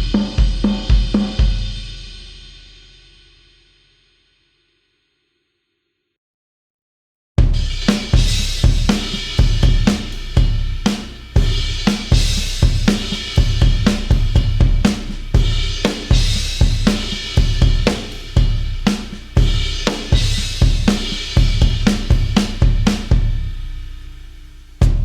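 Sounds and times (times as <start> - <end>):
rock drum kit groove: 0.0 - 2.6, 7.4 - 25.0.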